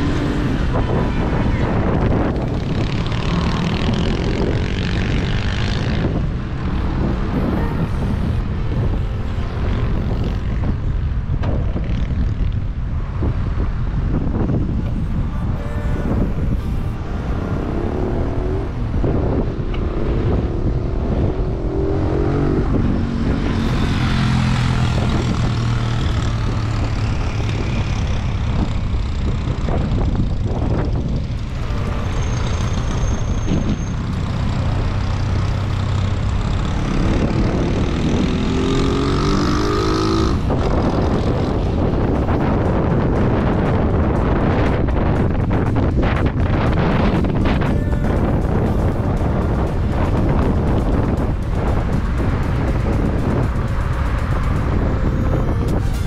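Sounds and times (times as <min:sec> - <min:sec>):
vehicles passing: 0:00.0 - 0:56.0
wind on microphone: 0:00.0 - 0:56.0.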